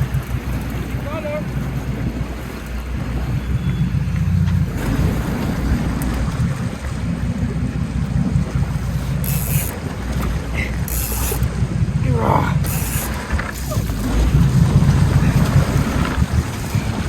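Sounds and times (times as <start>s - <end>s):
boat noise at sea: 0.0s - 17.0s
wind rumbling on microphone: 0.0s - 17.0s.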